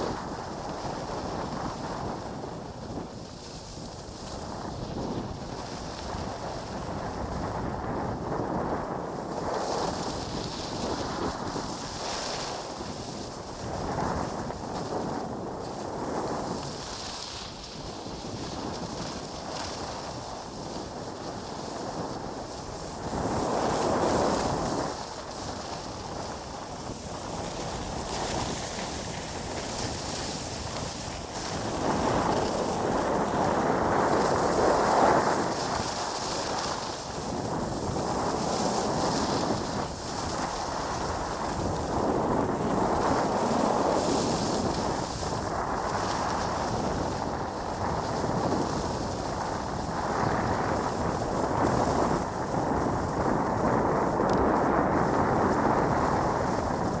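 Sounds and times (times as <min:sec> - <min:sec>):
skis scraping on snow: 0:00.0 - 0:57.0
wind on microphone: 0:00.0 - 0:57.0.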